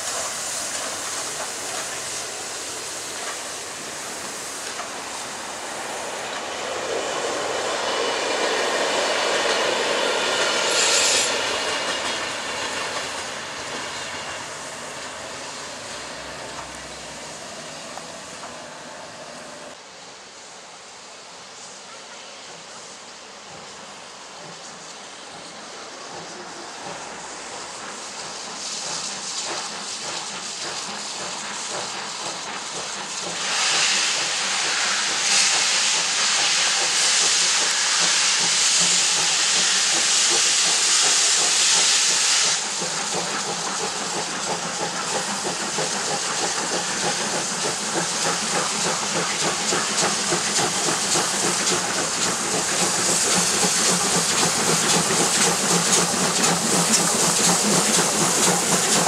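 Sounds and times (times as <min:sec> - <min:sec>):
steam locomotive exhaust beats: 0:00.0 - 0:19.8, 0:21.2 - 0:59.0
steam hissing: 0:00.0 - 0:59.0.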